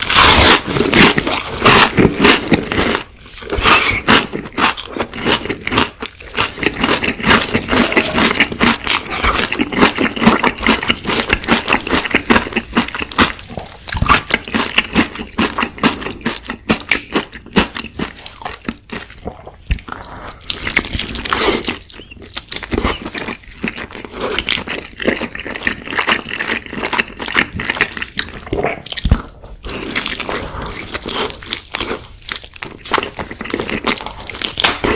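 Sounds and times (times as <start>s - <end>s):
person crunching and chewing: 0.0s - 34.9s.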